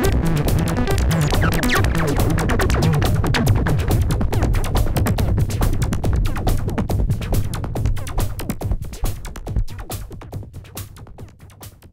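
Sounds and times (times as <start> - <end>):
electronic dance music on synthesizer: 0.0 - 10.4.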